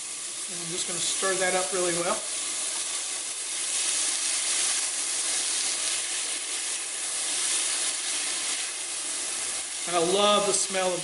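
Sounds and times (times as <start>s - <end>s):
spatula stirring in a pan: 0.0s - 11.0s
vegetables sizzling in a pan: 0.0s - 11.0s.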